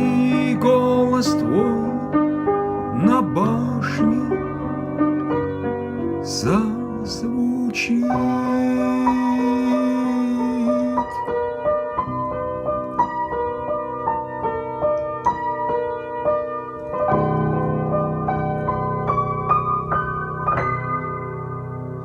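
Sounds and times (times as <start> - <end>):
slow keyboard piano melody: 0.0 - 22.0.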